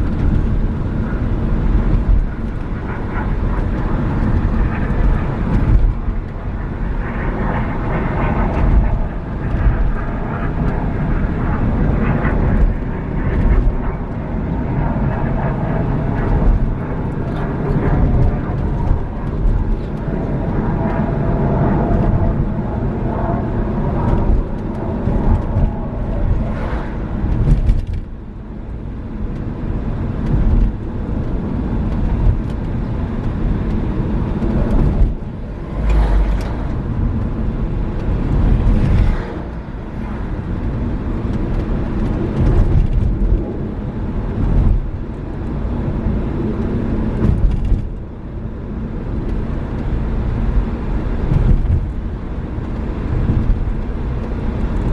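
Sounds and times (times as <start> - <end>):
car engine and tyre noise: 0.0 - 54.9.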